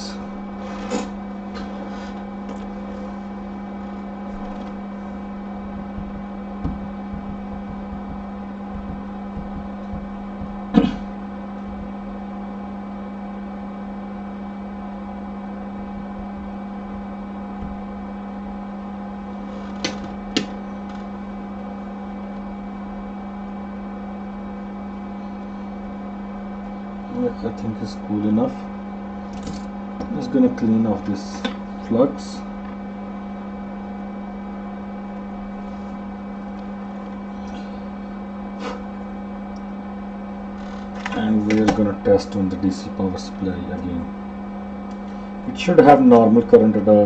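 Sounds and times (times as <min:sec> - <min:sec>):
electrical hum: 0:00.0 - 0:47.0.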